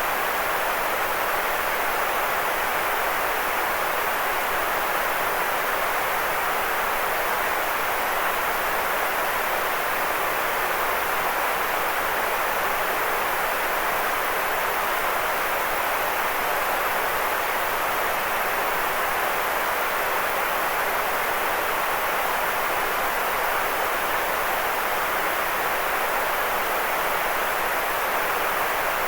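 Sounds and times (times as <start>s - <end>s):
white noise hiss: 0.0s - 29.0s.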